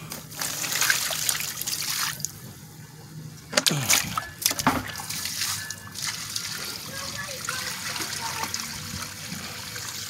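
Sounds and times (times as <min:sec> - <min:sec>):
water pouring from bucket: 0:00.3 - 0:02.3, 0:03.8 - 0:10.0.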